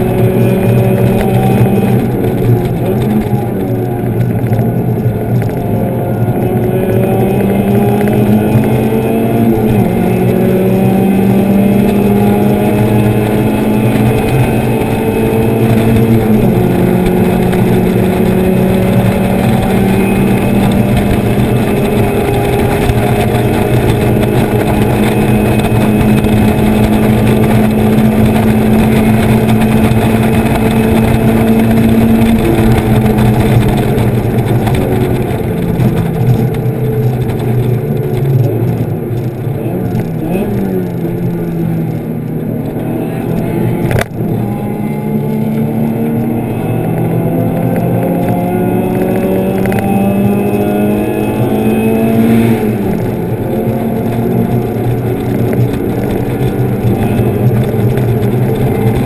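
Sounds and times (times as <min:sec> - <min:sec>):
race car engine running hard: 0:00.0 - 0:59.0
wind and road noise: 0:00.0 - 0:59.0.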